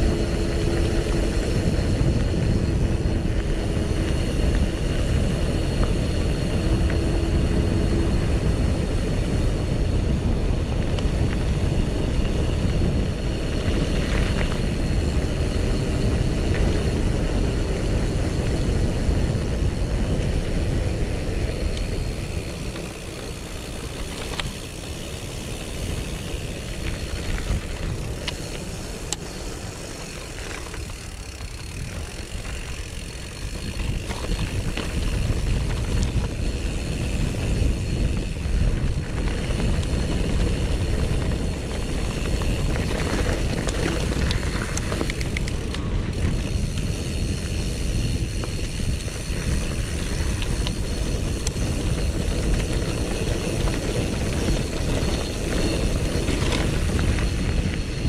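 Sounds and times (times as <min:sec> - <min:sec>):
bike clicks and rattles: 0:00.0 - 0:58.0
bike tyre rumble: 0:00.0 - 0:58.0
wind noise on microphone: 0:00.0 - 0:58.0.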